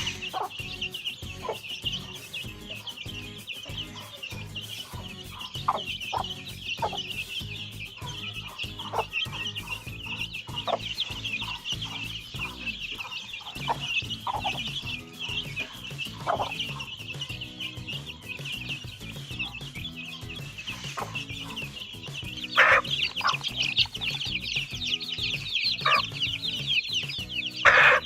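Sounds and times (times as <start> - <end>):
chicks peeping: 0.0 - 28.0
hen clucking: 0.0 - 28.0.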